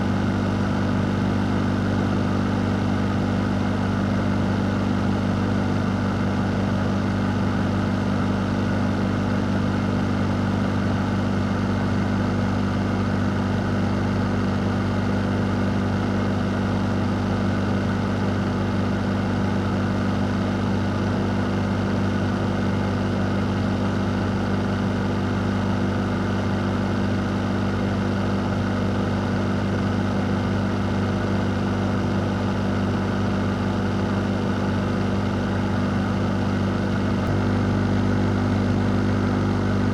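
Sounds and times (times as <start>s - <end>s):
fan running: 0.0s - 39.9s.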